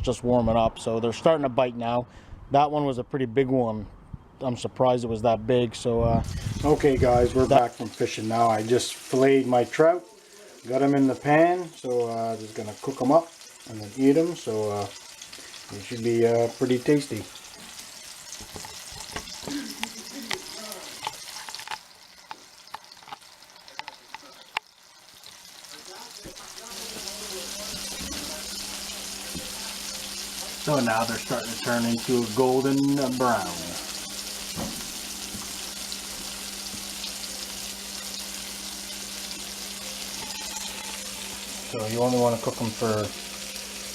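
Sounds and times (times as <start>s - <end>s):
fish sizzling in a pan: 6.2s - 43.9s
oil crackling and popping: 6.2s - 43.9s.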